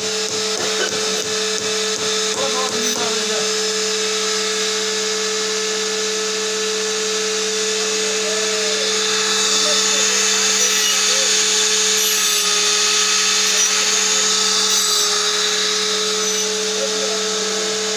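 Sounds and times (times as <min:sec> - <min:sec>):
electric power tool motor humming: 0:00.0 - 0:17.9.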